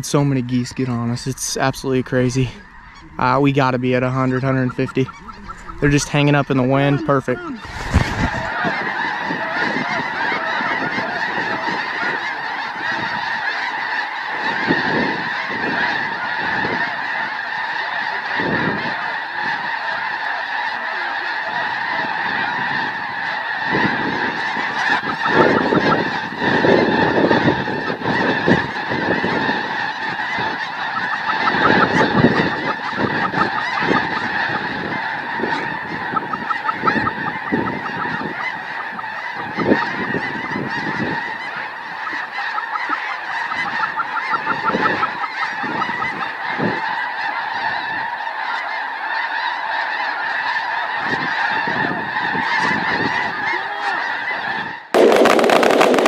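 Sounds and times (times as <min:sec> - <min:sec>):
flock of geese honking: 0:00.0 - 0:56.0.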